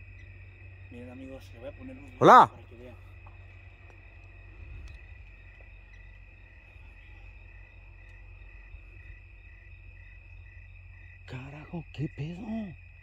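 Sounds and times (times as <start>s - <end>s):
crickets chirping: 0.0s - 13.0s
low rumble of wind: 0.0s - 13.0s.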